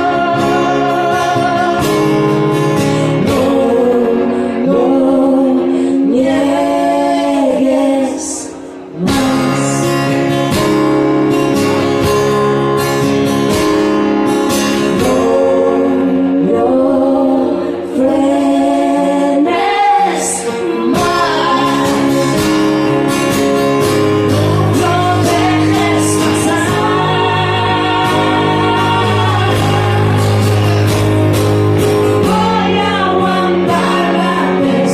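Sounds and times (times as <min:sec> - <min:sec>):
person singing: 0:00.0 - 0:10.6, 0:14.6 - 0:34.9
live band playing pop: 0:00.0 - 0:34.9.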